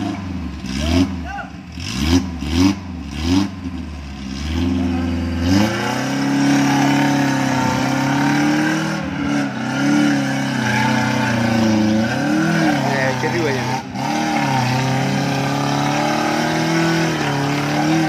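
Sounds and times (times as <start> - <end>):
car engine revving under load: 0.0 - 18.0.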